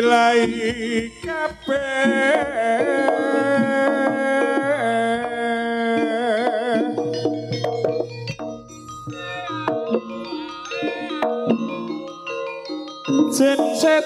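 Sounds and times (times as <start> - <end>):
drum strokes: 0.0 - 14.0
wavering melody line: 0.0 - 14.0.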